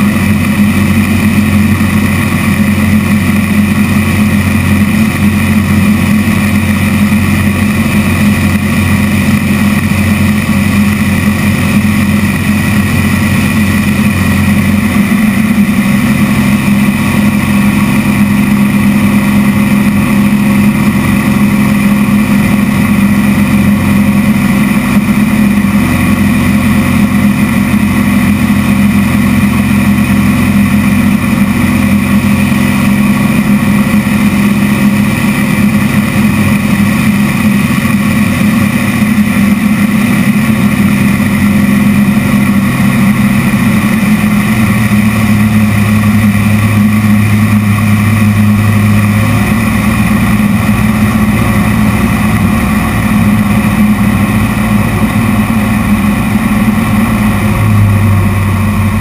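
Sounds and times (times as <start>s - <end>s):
plane engine and propeller drone: 0.0s - 59.0s.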